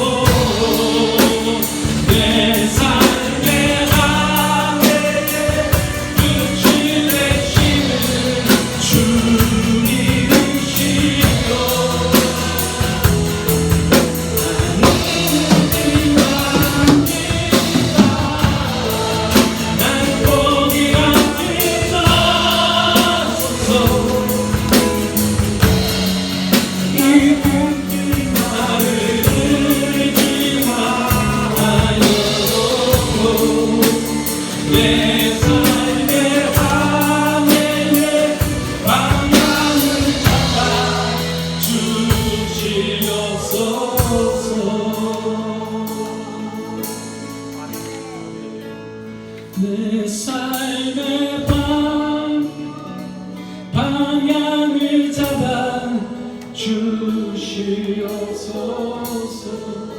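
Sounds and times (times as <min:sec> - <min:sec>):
drums keeping a steady beat: 0:00.0 - 0:48.5, 0:51.4 - 0:52.0, 0:55.1 - 0:55.9
people singing: 0:00.0 - 0:48.8, 0:49.4 - 0:59.9
praise band playing worship song: 0:00.0 - 0:59.9.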